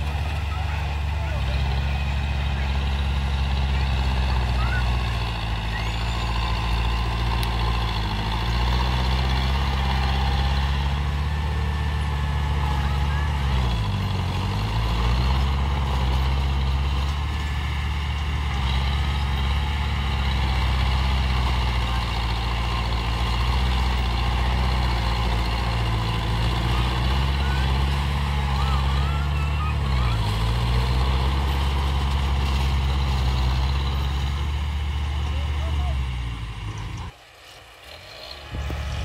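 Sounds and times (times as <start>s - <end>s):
bulldozer diesel engine under load: 0.0s - 39.0s.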